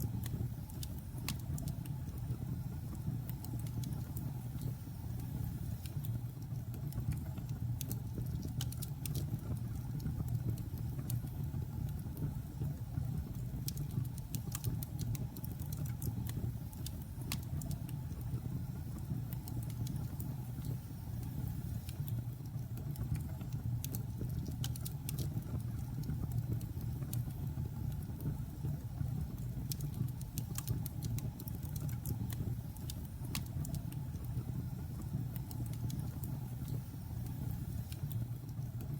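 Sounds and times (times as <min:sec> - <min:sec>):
fire crackling and popping: 0:00.0 - 0:38.9
low rumble of fire: 0:00.0 - 0:38.9.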